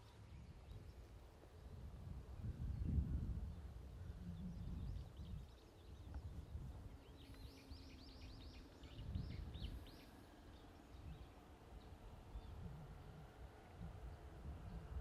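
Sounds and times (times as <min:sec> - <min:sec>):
low outdoor rumble: 0:00.0 - 0:15.0
songbird singing: 0:00.0 - 0:15.0.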